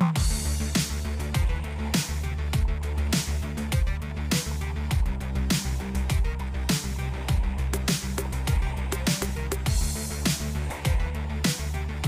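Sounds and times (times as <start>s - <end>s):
deep kick drum: 0.0s - 11.6s
sustained bass notes: 0.0s - 12.0s.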